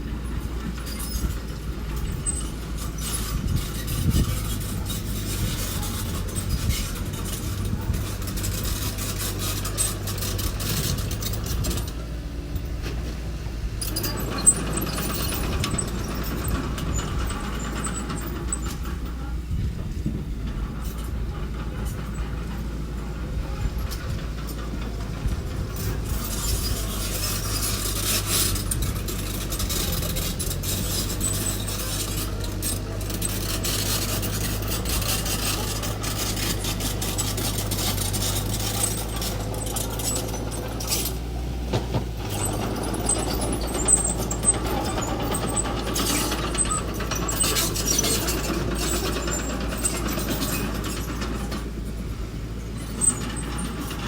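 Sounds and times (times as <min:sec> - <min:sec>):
machine clanking and scraping: 0:00.0 - 0:54.0
small earthmover engine running: 0:00.0 - 0:54.0.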